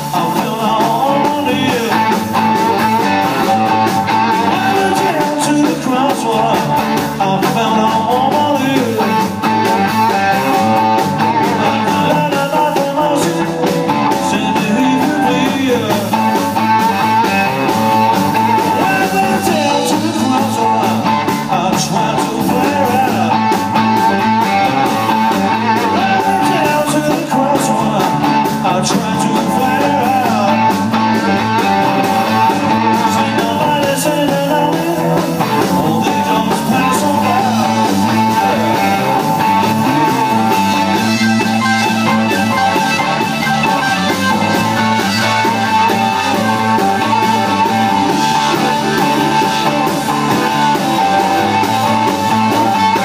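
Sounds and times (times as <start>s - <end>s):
bass guitar: 0.0s - 53.0s
drum kit: 0.0s - 53.0s
electric guitar: 0.0s - 53.0s.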